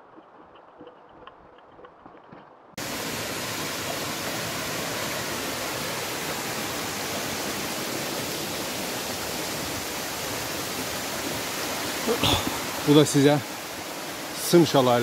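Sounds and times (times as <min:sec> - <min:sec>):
waterfall rushing: 0:02.8 - 0:15.0.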